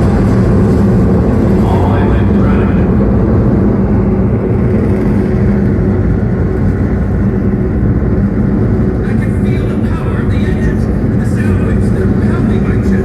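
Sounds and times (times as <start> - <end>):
rocket engines firing: 0.0 - 13.0.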